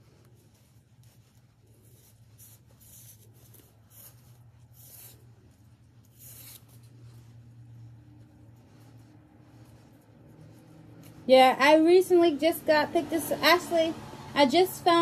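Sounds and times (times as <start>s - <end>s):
fabric ribbon rustling: 0.0s - 13.7s
steady low hum: 0.0s - 15.0s.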